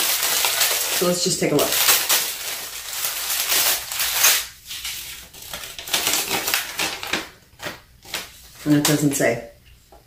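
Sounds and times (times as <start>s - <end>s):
packaging crinkling and rustling: 0.0s - 9.1s.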